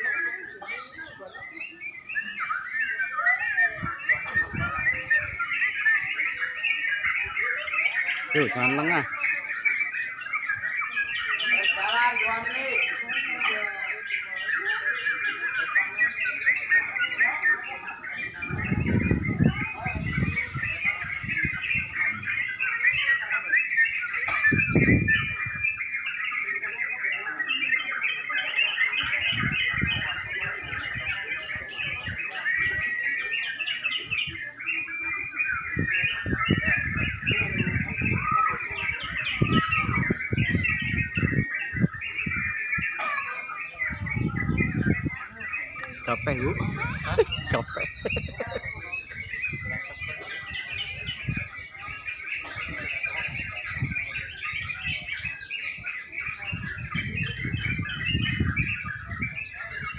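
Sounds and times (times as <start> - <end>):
people's voices: 0.0 - 59.9
songbirds chirping and whistling: 0.0 - 59.9.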